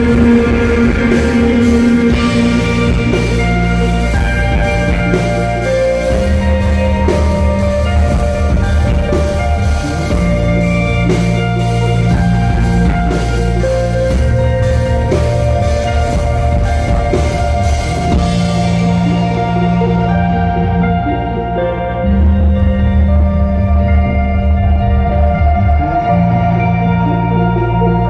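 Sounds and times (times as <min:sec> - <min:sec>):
instrumental rock music: 0:00.0 - 0:28.0.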